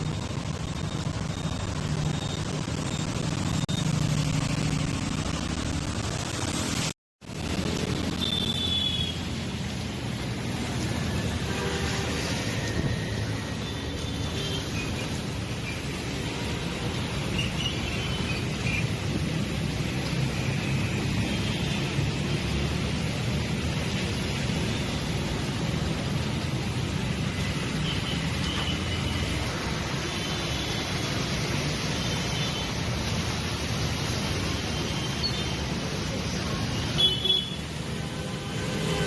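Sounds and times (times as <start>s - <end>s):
city street traffic: 0.0s - 39.0s.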